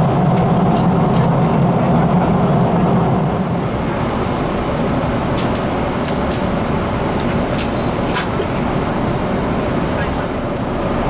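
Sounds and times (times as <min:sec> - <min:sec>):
airplane cabin engine noise: 0:00.0 - 0:11.0.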